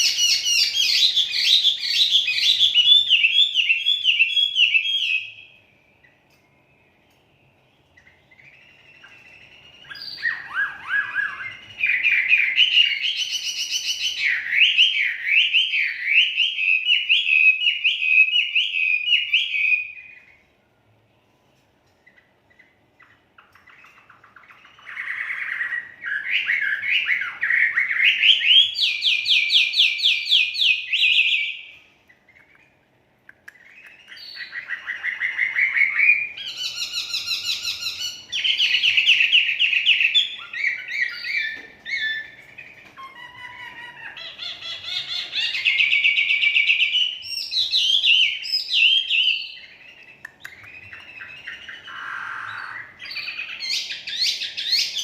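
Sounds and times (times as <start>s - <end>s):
songbird trilling and whistling: 0.0s - 20.4s, 22.0s - 55.0s.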